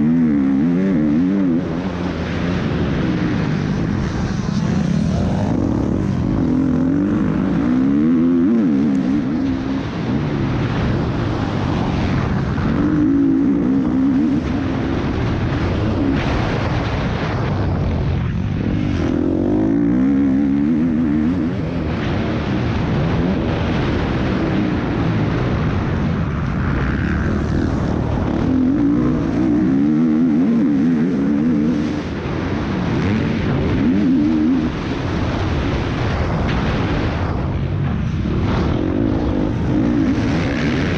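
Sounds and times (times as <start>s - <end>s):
motocross bike engine revving: 0.0s - 36.8s, 38.0s - 40.9s
wind rush: 0.0s - 40.9s.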